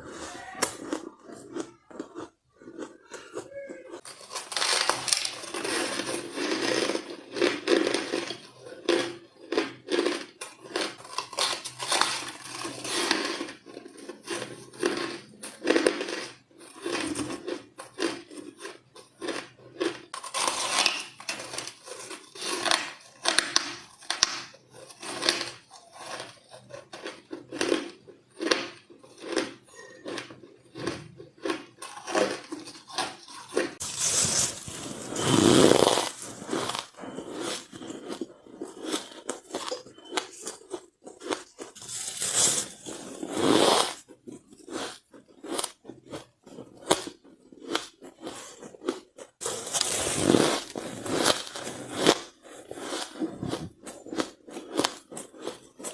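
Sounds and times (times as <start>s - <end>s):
ice crunching between teeth: 0.1s - 55.9s.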